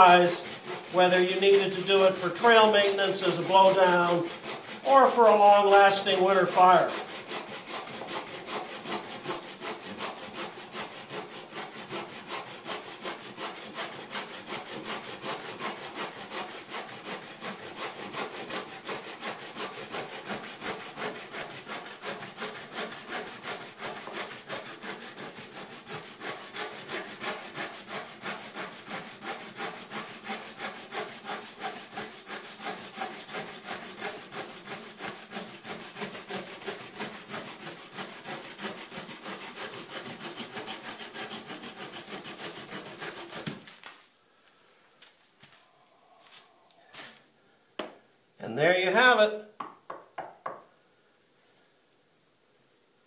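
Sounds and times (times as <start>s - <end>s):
saw cutting through log: 0.0s - 44.0s.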